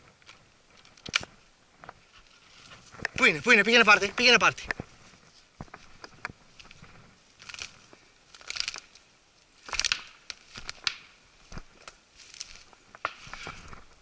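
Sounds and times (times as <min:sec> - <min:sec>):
footsteps crunching through reeds: 0:00.0 - 0:14.0
rustling and crackling: 0:00.0 - 0:14.0.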